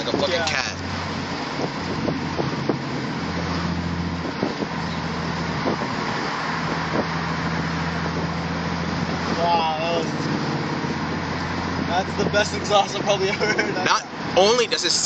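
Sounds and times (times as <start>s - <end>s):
car exhaust purring: 0.0s - 15.0s
tyre and road noise: 0.0s - 15.0s.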